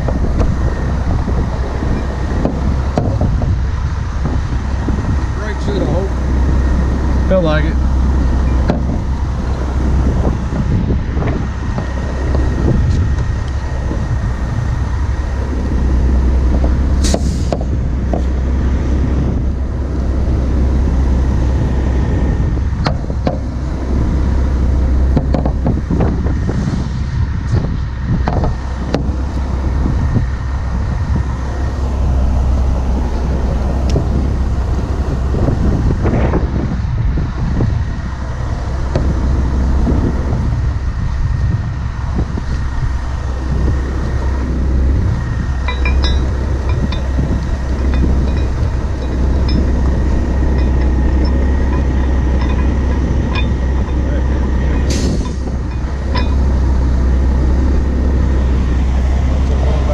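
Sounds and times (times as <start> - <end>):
truck diesel engines rumbling: 0.0 - 59.9.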